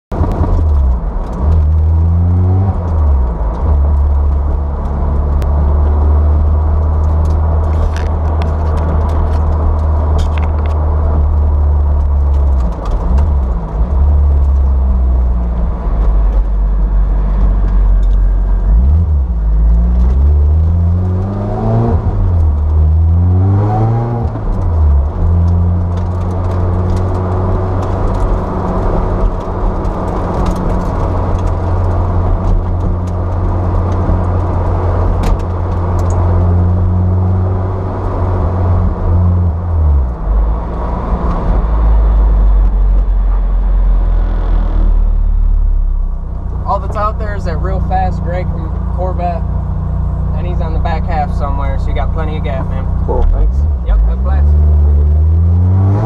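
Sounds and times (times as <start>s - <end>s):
car engine at low revs: 0.1s - 56.0s.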